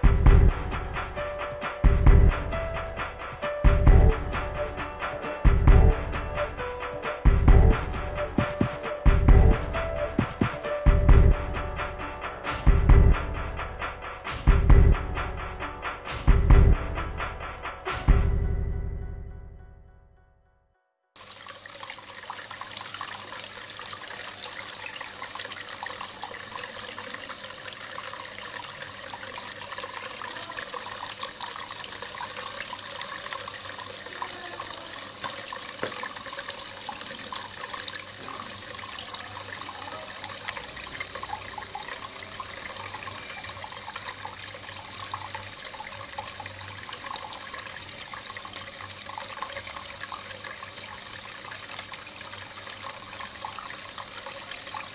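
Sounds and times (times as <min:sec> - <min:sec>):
waterfall splashing into pond: 0:00.0 - 0:11.3, 0:12.4 - 0:12.9, 0:14.3 - 0:14.7, 0:21.2 - 0:54.9.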